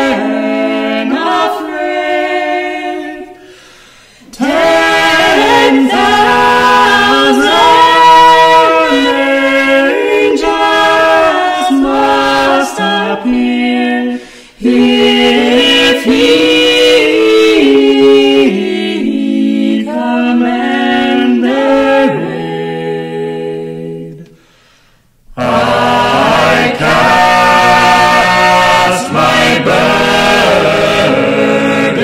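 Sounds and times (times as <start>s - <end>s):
choir singing a hymn: 0.0s - 24.4s, 25.3s - 32.0s.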